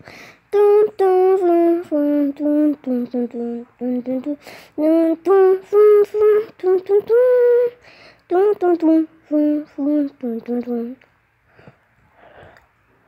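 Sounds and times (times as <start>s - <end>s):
high voice singing: 0.0s - 11.0s.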